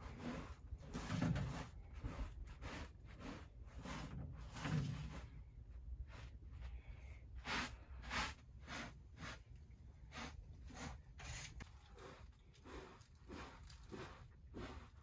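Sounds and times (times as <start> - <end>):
hand broom sweeping carpet: 0.0 - 15.0.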